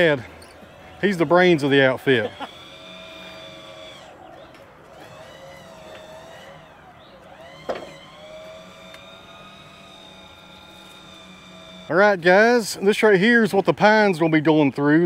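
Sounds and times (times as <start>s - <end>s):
engine running: 0.0s - 13.9s.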